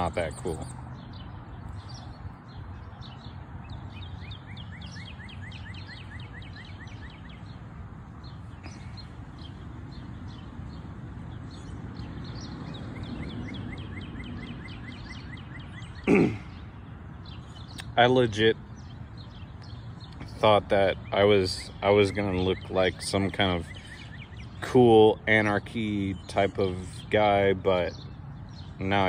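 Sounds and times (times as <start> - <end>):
bird chirping rapidly: 0.0 - 29.0.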